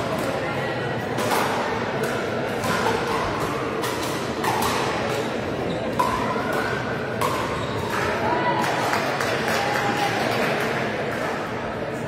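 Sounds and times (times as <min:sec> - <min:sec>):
murmur of spectator chatter: 0:00.0 - 0:12.0.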